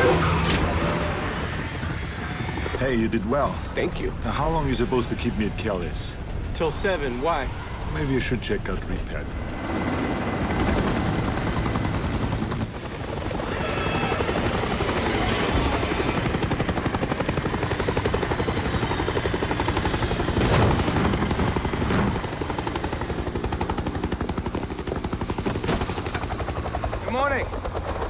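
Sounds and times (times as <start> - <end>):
helicopter engine whine: 0.0 - 28.0
helicopter rotors chopping: 0.0 - 28.0.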